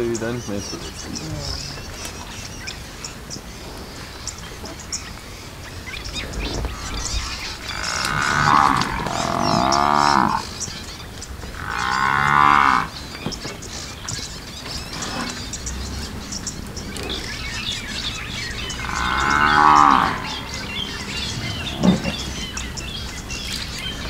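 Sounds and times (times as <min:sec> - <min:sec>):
buffalo lowing: 0:00.8 - 0:24.0.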